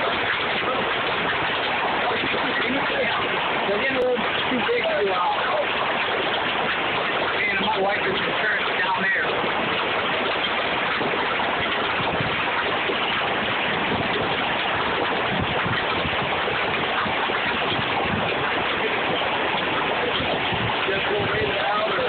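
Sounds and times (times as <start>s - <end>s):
hail clattering: 0.0s - 22.0s.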